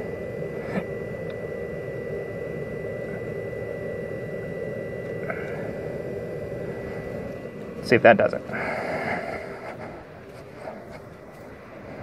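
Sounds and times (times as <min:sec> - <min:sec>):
thin high whine: 0:00.0 - 0:12.0
vee eight engine idling: 0:00.0 - 0:12.0.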